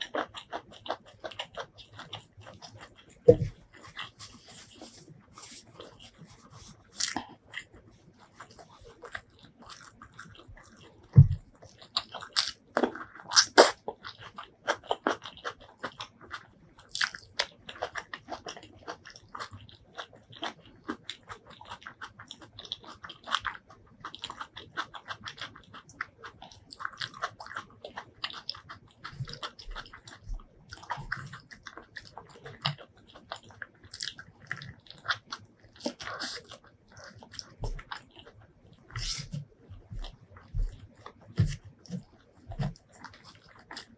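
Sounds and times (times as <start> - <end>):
close chewing with mouth clicks: 0.0 - 43.9.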